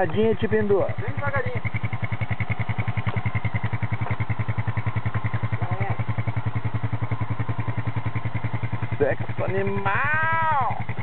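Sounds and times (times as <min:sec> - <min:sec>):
quad engine puttering: 0:00.0 - 0:11.0.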